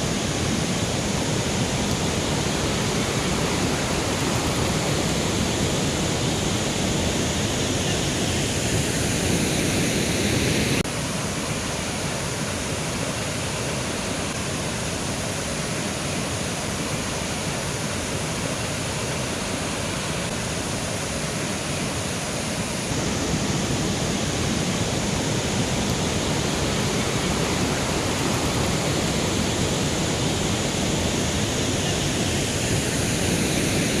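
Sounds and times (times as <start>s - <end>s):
river rushing over rocks: 0.0s - 34.0s.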